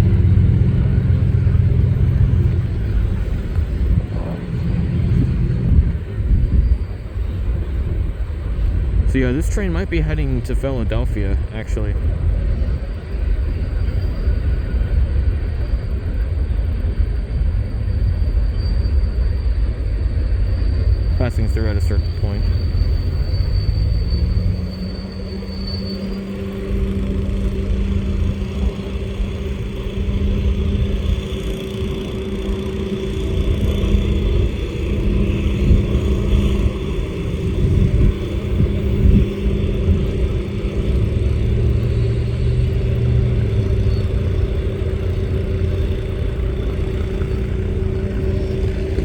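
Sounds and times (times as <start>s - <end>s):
constant hum: 0.0s - 49.0s
freight train rolling past: 0.0s - 49.0s.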